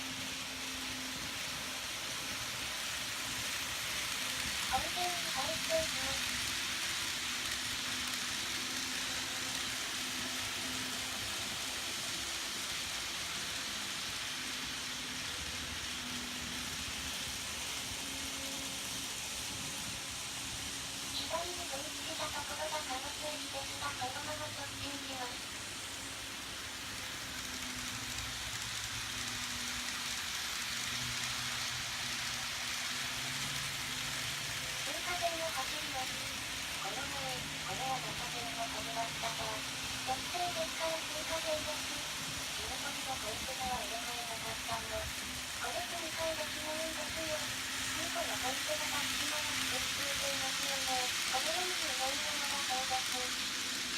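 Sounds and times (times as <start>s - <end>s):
model train wheels hissing on rail: 0.0s - 53.9s.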